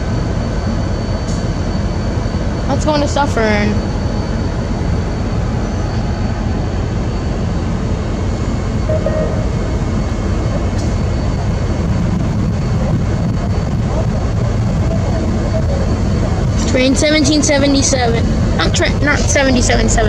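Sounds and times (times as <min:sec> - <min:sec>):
train rumbling past on rails: 0:00.0 - 0:20.0.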